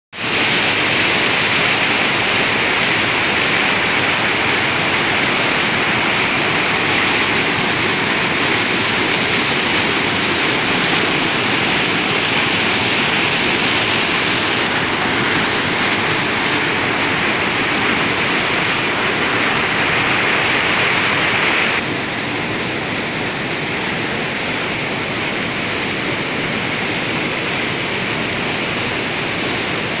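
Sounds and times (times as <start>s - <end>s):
waterfall rushing: 0.2s - 30.0s.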